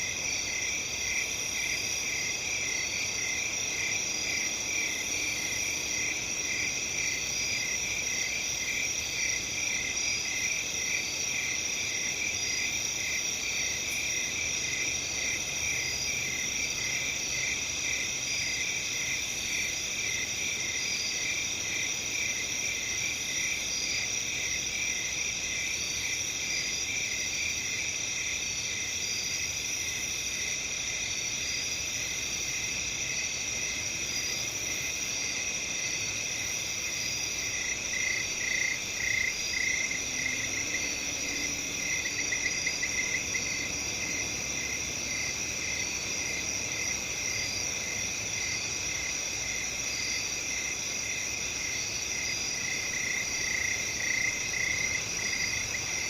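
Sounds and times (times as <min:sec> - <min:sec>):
chorus of crickets trilling: 0:00.0 - 0:56.0.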